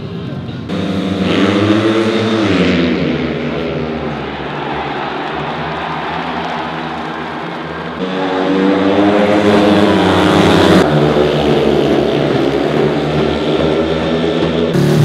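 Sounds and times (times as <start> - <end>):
motorcycles racing: 0.0 - 15.0.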